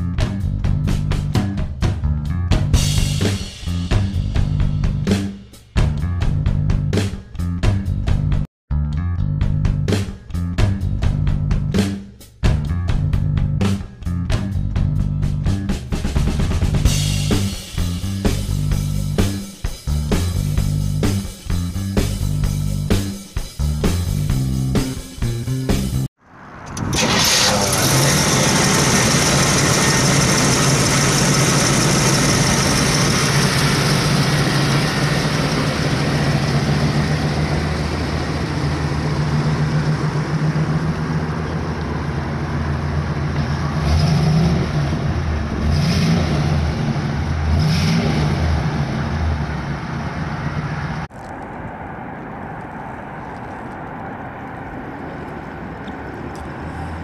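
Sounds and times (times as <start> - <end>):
car engine idling and revving: 0.0 - 8.5, 9.4 - 25.0, 26.3 - 57.0.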